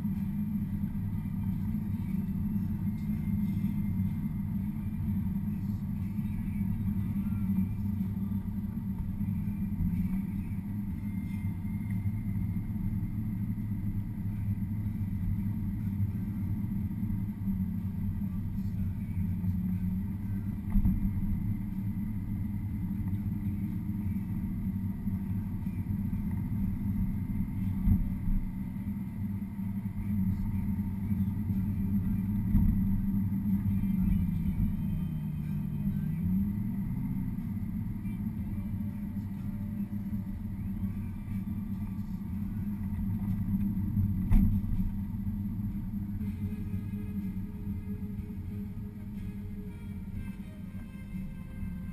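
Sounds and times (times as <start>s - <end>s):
car engine and tyres rumbling: 0.0s - 51.9s.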